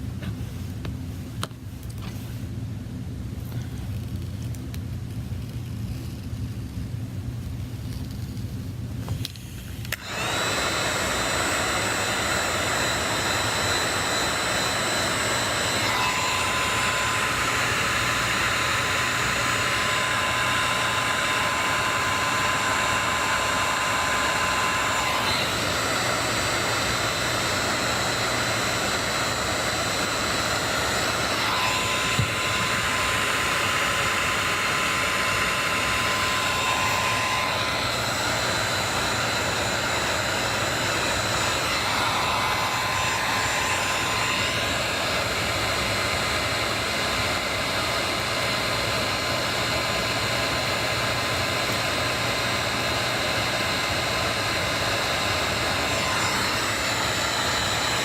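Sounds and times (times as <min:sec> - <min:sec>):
hot-air blower rushing: 0:09.0 - 0:58.0.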